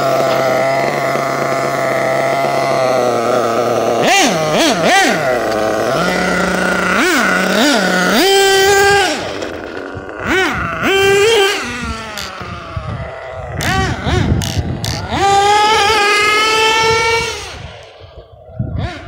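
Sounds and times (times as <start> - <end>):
small nitro engine idling and revving: 0.0 - 19.0.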